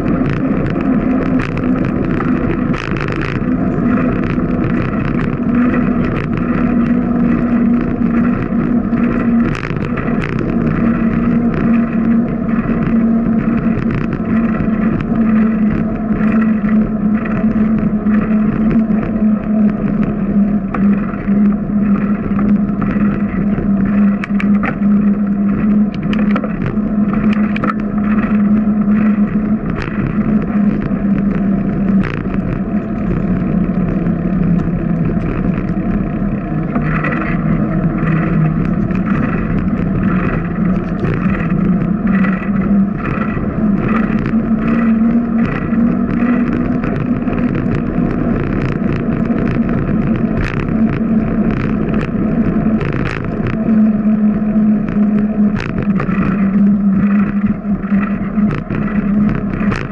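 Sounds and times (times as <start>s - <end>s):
bicycle ticks and rattles: 0.0s - 59.9s
bicycle tyre hum: 0.0s - 59.9s.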